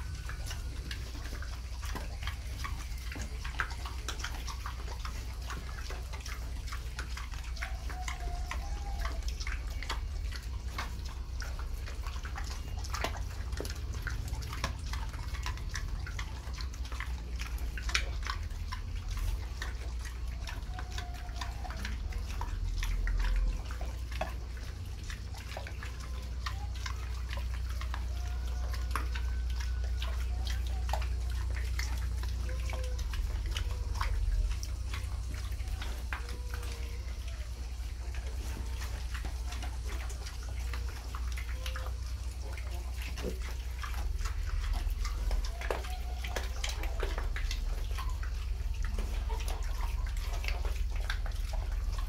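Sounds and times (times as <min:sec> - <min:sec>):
piglets squeaking: 0:00.0 - 0:52.0
pigs chewing and smacking: 0:00.0 - 0:52.0.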